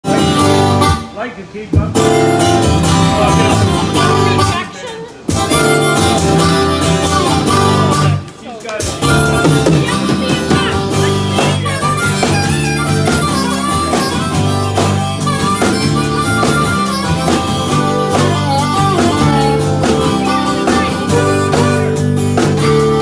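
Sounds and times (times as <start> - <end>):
bending lead guitar melody: 0.0 - 1.2, 1.8 - 23.0
country band instrumental: 0.0 - 23.0.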